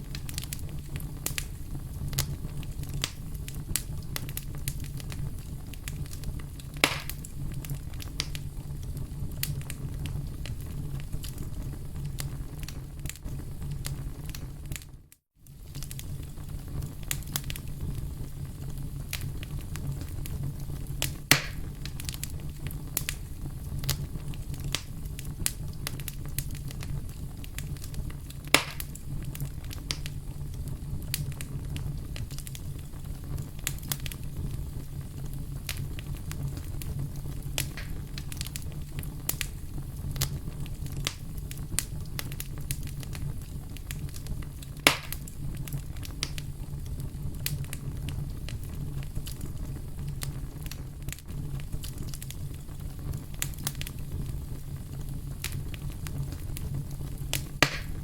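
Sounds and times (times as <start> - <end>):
fire crackling in a fireplace: 0.0 - 58.0
loud fire pops: 0.0 - 58.0.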